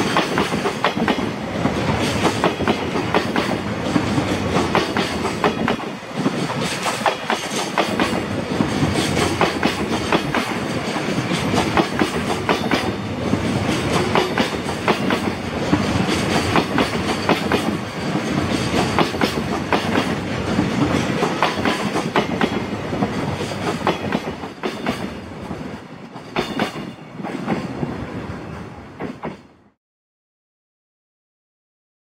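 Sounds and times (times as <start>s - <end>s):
train wheels clattering over rails: 0.0s - 28.0s.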